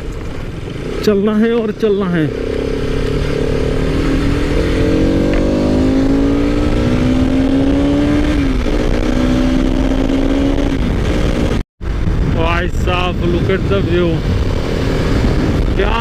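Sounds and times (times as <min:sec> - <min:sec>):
motorcycle engine accelerating: 0:00.0 - 0:16.0
wind rumble on microphone: 0:02.3 - 0:16.0.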